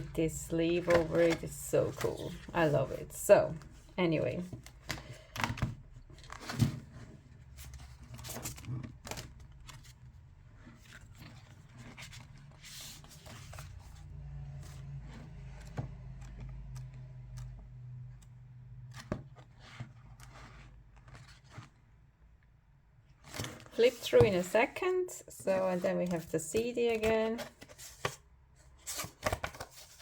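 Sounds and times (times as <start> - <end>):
cardboard and paper rustling: 0.0 - 21.9, 23.2 - 30.0.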